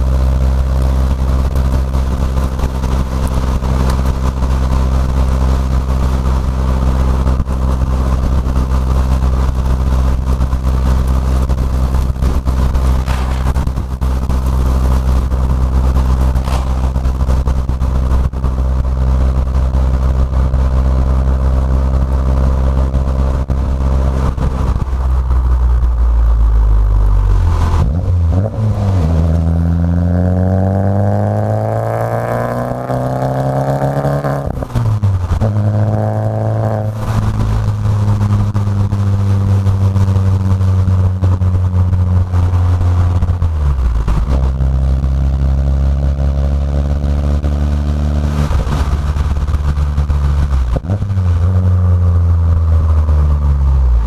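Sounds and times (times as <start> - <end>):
car engine drone in cabin: 0.0 - 54.0.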